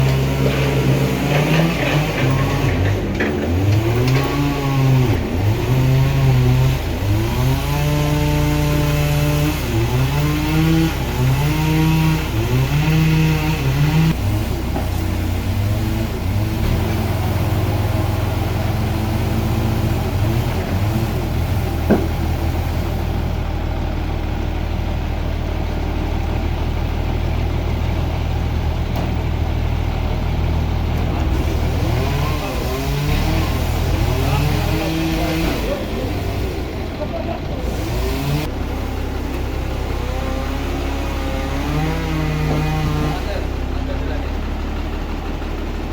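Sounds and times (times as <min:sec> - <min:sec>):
machine engine revving: 0:00.0 - 0:45.9.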